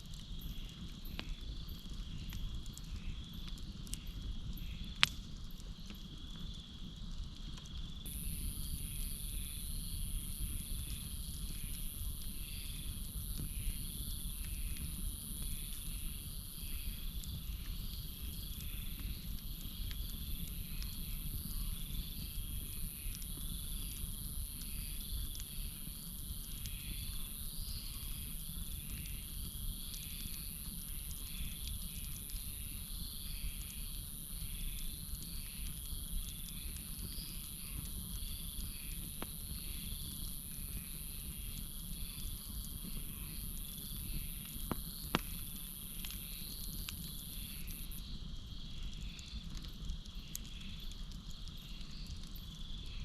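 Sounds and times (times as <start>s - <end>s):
campfire rumbling: 0.0s - 53.0s
crickets trilling: 0.0s - 53.0s
fire crackles: 0.0s - 53.0s
frogs pulsing call: 0.4s - 5.0s, 8.1s - 53.0s.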